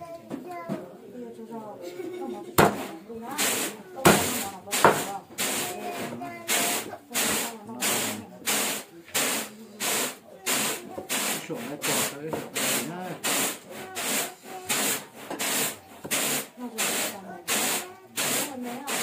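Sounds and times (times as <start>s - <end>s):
faint voices: 0.0s - 19.0s
rhythmic harsh scraping: 2.7s - 19.0s.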